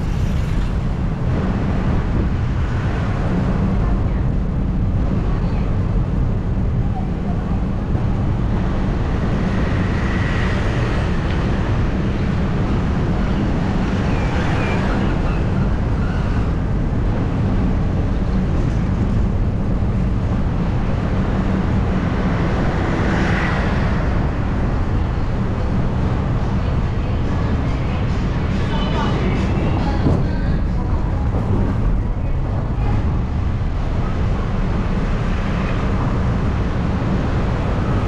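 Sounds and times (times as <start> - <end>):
wind and road noise rumble: 0.0 - 38.0.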